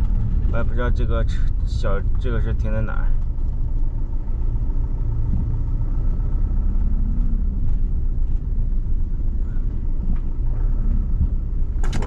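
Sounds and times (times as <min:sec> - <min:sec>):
engine and tyres rumbling: 0:00.0 - 0:12.0.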